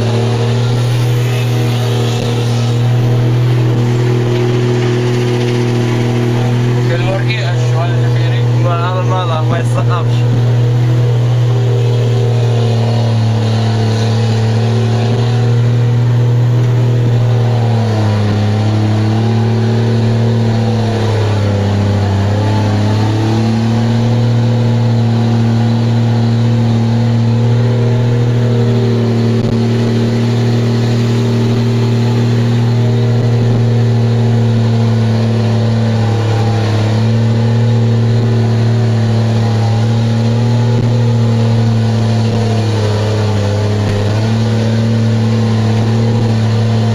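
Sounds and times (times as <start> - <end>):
diesel truck engine pulling uphill: 0.0 - 46.9.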